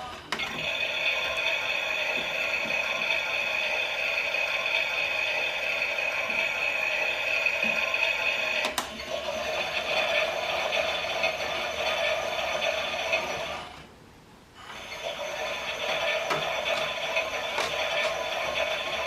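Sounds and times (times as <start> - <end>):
toy washing machine motor humming: 0.0 - 13.9, 14.6 - 19.0.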